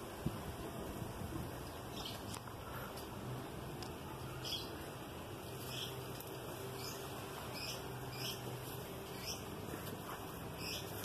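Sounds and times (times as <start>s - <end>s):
small birds chirping: 1.5s - 11.0s.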